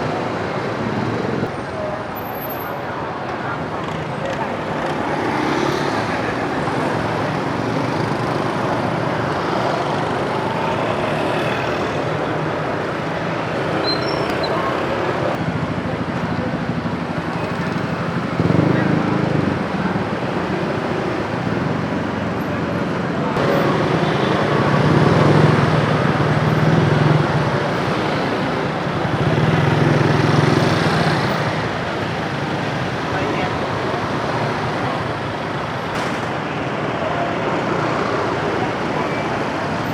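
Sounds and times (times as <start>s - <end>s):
motorbikes and cars passing: 0.0s - 39.9s
street traffic: 0.0s - 39.9s.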